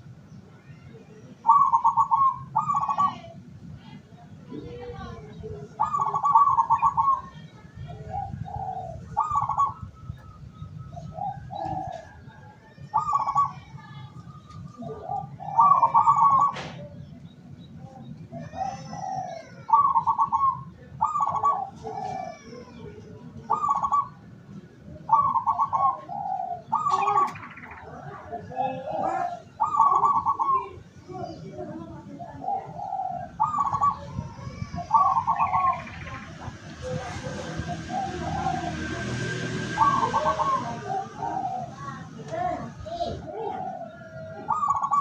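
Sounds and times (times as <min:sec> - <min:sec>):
small birds chirping: 0:00.0 - 0:45.0
doves cooing: 0:01.3 - 0:17.2, 0:17.8 - 0:45.0.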